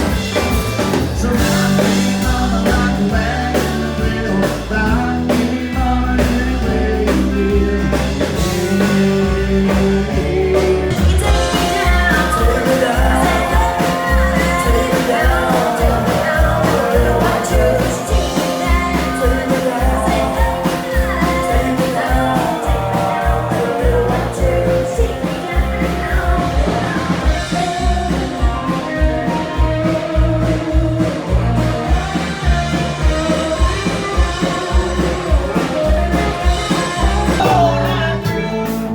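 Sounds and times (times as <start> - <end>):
drum beat: 0.0 - 38.9
melodic lead line: 0.0 - 38.9.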